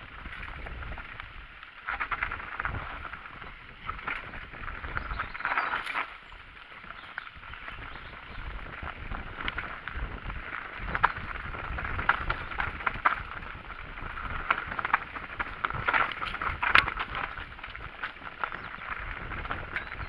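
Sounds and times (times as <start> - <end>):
mountain bike rattling: 0.0 - 20.0
wind rumble on microphone: 0.0 - 20.0
bike clicks and knocks: 0.2 - 20.0.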